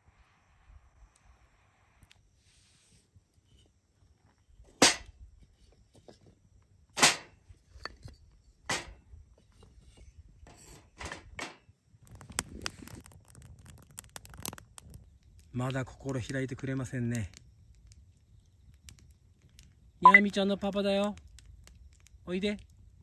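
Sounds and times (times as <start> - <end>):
firewood popping in a campfire: 4.3 - 23.0.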